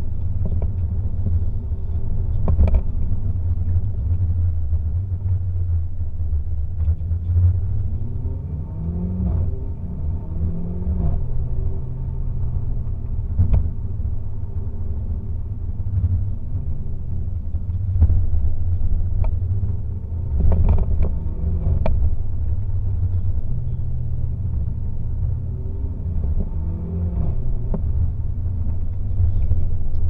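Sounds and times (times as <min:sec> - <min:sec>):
car engine rumbling at low revs: 0:00.0 - 0:30.0
exhaust pops: 0:00.1 - 0:08.2, 0:09.1 - 0:30.0.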